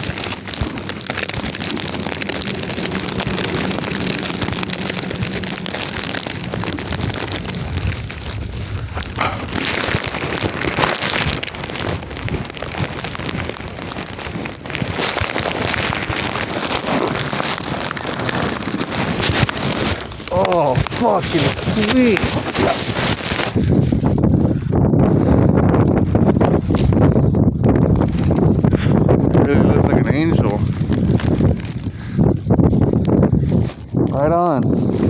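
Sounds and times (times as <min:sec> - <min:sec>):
sleet pattering: 0:00.0 - 0:24.6, 0:28.0 - 0:35.0
ice crackles: 0:00.0 - 0:35.0.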